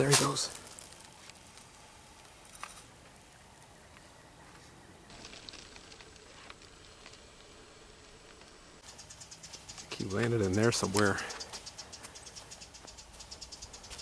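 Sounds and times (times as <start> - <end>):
faint ticks and light rustles: 0.0 - 14.0.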